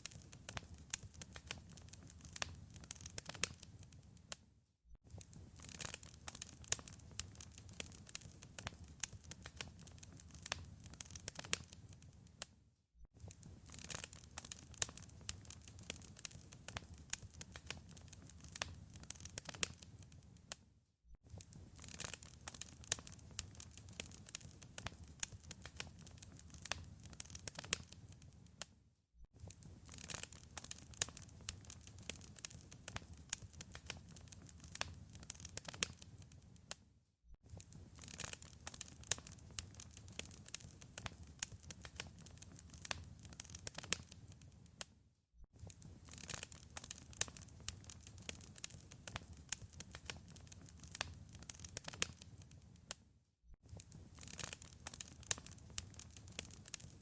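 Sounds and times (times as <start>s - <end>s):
wood fire crackling: 0.0s - 4.4s, 5.1s - 12.4s, 13.2s - 20.6s, 21.3s - 28.6s, 29.4s - 36.8s, 37.5s - 44.9s, 45.6s - 53.0s, 53.7s - 57.0s.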